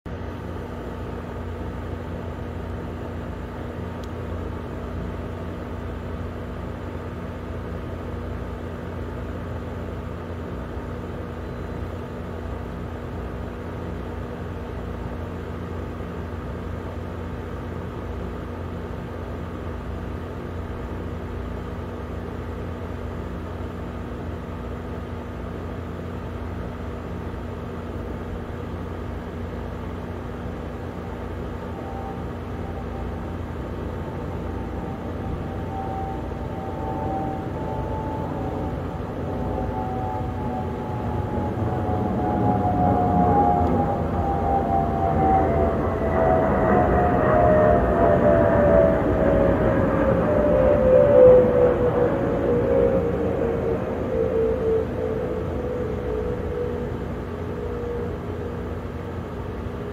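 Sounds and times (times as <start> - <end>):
constant low hum: 0.0 - 59.9
low background rumble: 0.1 - 59.9.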